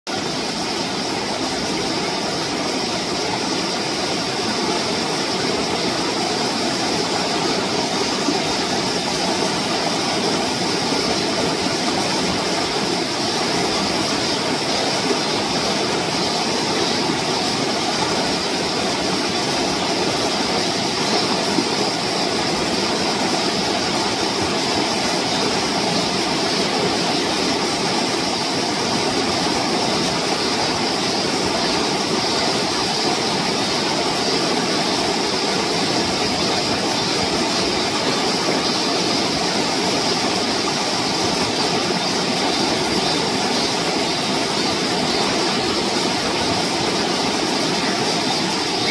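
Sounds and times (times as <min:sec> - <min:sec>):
stream rushing over rocks: 0:00.1 - 0:48.9.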